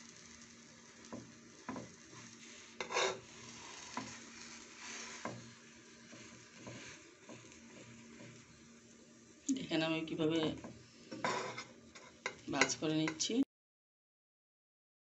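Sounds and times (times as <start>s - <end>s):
spatula scraping frying pan: 0.0s - 9.3s, 10.2s - 13.3s
faint sizzle: 0.0s - 13.5s.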